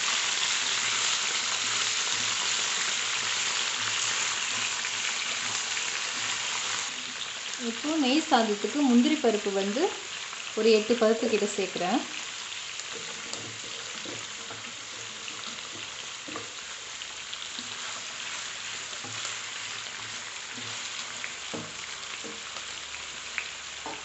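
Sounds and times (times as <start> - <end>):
food sizzling in pans: 0.0 - 24.0.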